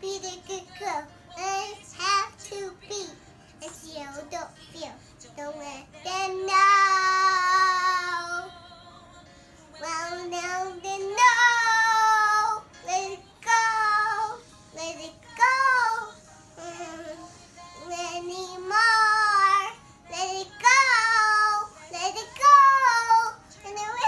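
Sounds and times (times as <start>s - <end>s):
toddler girl singing: 0.0s - 8.7s, 9.7s - 24.0s.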